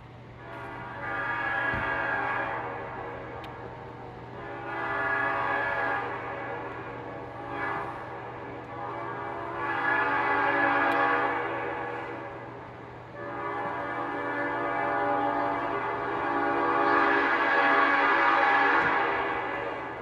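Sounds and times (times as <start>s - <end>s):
locomotive air horn blasts: 0.4s - 20.0s.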